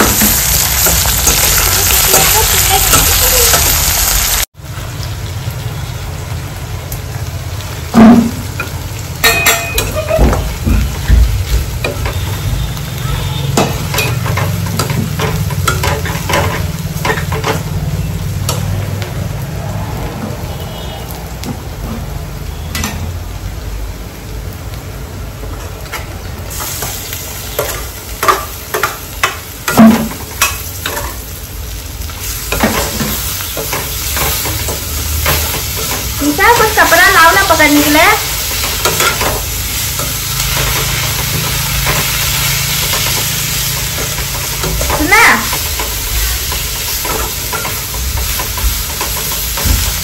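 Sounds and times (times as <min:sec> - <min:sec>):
chicken frying in oil: 0:00.0 - 0:50.0.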